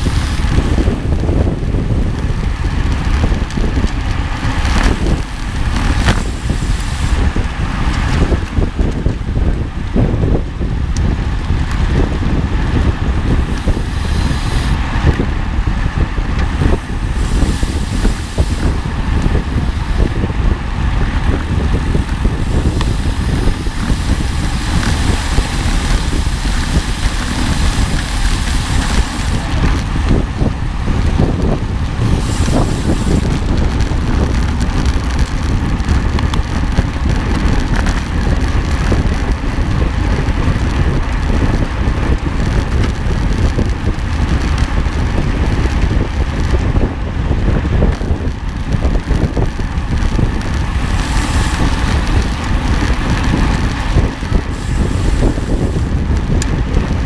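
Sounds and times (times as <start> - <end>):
low rumble: 0.0 - 57.0
wind noise on microphone: 0.0 - 57.0.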